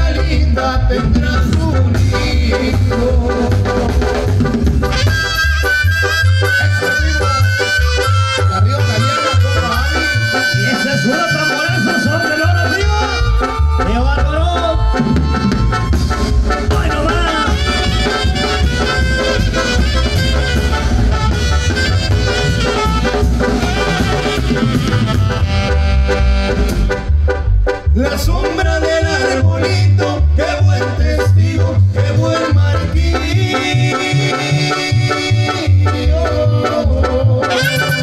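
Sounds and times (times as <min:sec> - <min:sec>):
low drum beat: 0:00.0 - 0:34.3
brass band music through speakers: 0:00.0 - 0:38.0.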